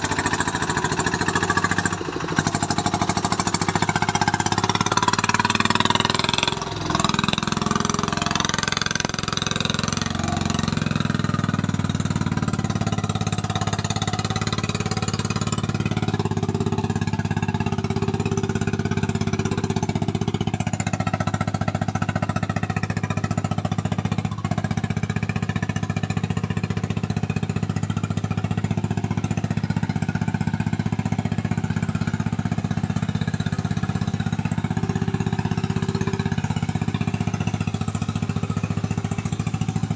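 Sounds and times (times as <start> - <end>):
diesel truck engine clattering: 0.0 - 39.9.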